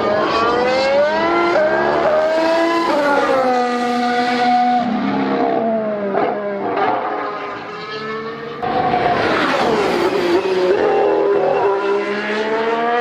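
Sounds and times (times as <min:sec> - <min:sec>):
racing car engine passing: 0:00.0 - 0:13.0.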